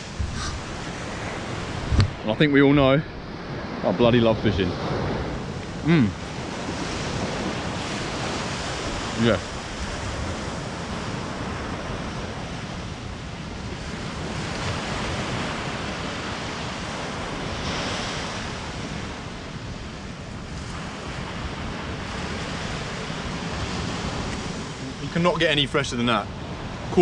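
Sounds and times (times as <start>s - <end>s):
wind buffeting microphone: 0.0s - 25.3s
ocean waves breaking: 0.0s - 27.0s.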